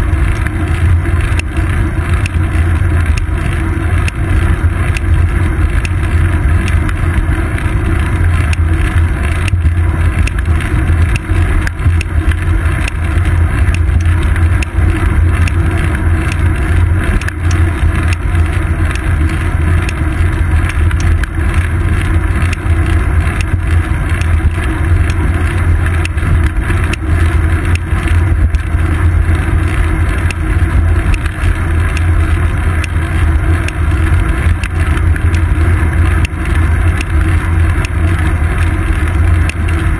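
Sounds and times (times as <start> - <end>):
bicycle road vibration: 0.0 - 39.9
small ticks: 0.0 - 39.9.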